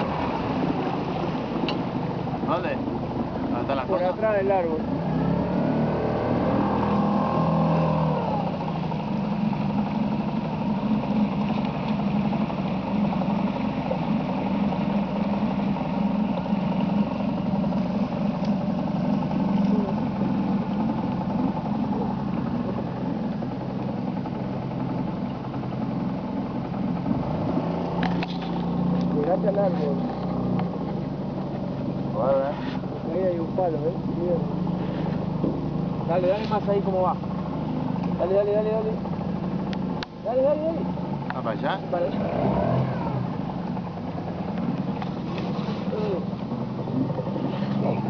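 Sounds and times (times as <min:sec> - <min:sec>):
motorboat engine running: 0:00.0 - 0:48.0.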